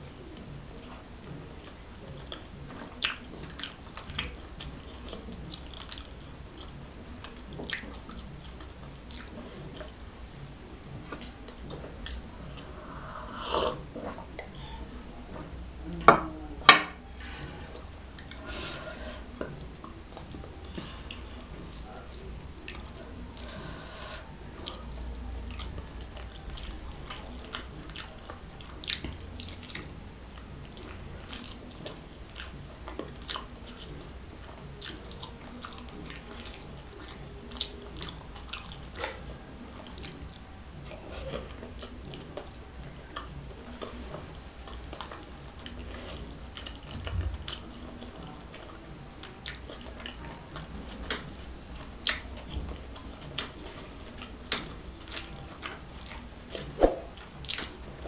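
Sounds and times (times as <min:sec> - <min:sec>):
close chewing and mouth sounds: 0:00.0 - 0:58.0.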